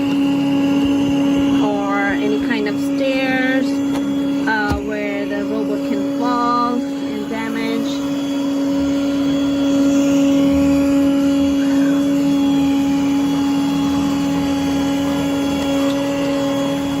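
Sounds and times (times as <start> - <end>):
robot vacuum humming and whining: 0.0 - 17.0.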